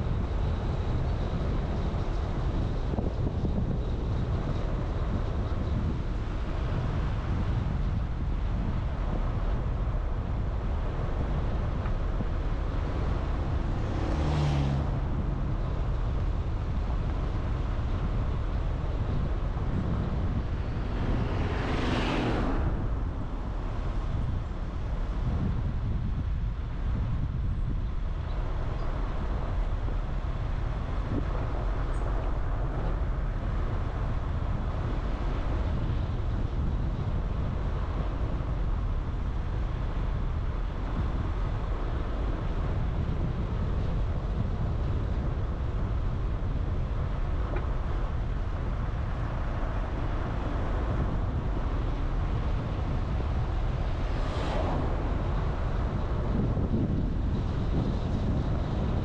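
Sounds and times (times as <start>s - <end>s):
car road and engine noise: 0.0s - 59.0s.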